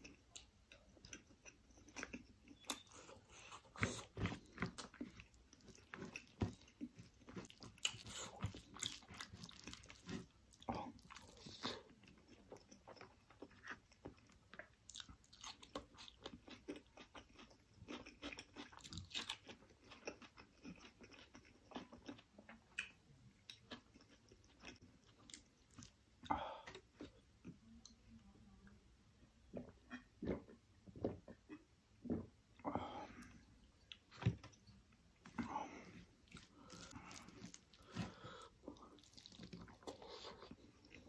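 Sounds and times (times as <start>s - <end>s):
person chewing and lip-smacking: 0.0s - 28.0s, 33.0s - 41.0s.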